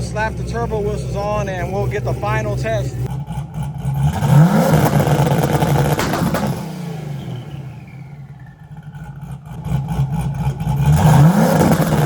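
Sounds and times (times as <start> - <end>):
car engine revving on limiter: 0.0 - 12.0
exhaust pops: 0.0 - 12.0.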